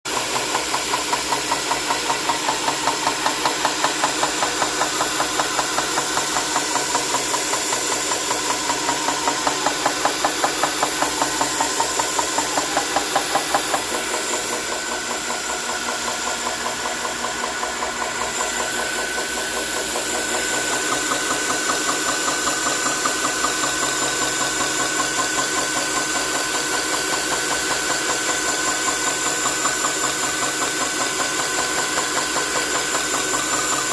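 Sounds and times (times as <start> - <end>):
sharpening machine pulsing hum: 0.1 - 33.9
steady machine whine: 0.1 - 33.9.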